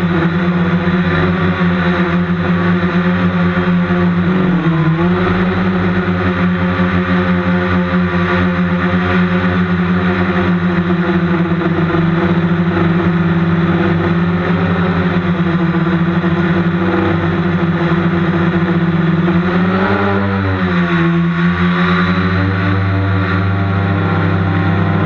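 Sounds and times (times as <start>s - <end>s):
remote-controlled helicopter droning: 0.0s - 25.0s.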